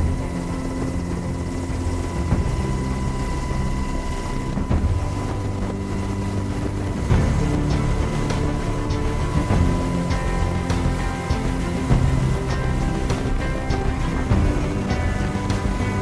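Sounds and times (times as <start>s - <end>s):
helicopter low drone: 0.0s - 16.0s
helicopter turbine whine: 0.0s - 16.0s.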